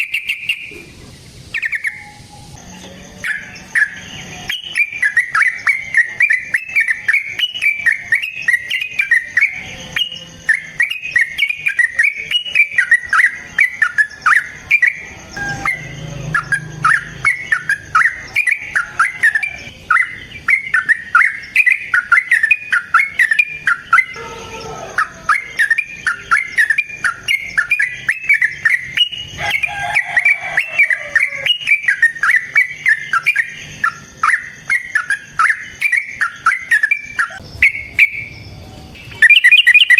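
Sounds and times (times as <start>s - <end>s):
bird descending lower phrase: 0.0s - 33.9s
bird chattering song: 0.0s - 39.9s.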